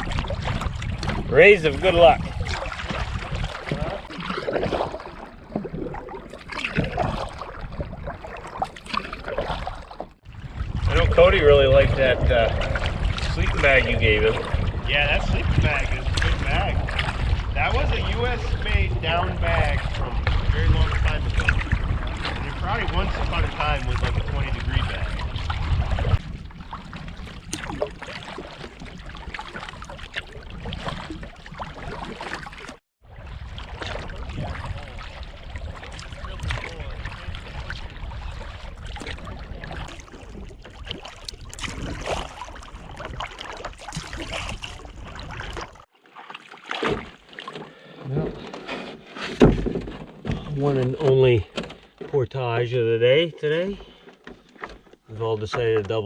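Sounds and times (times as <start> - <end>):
wind on microphone: 0.0 - 8.6, 9.6 - 45.8
paddle splashing in water: 0.0 - 52.1.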